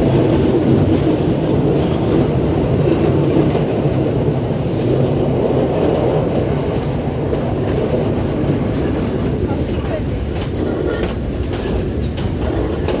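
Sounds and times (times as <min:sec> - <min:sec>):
passenger train rumbling on track: 0:00.0 - 0:13.0.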